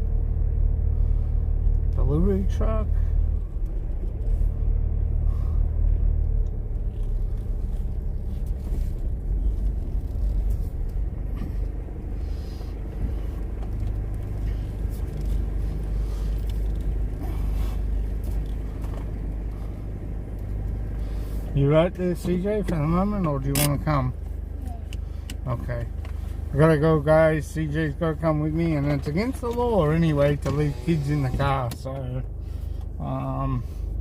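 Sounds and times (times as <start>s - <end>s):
car interior engine and road noise: 0.0s - 34.0s.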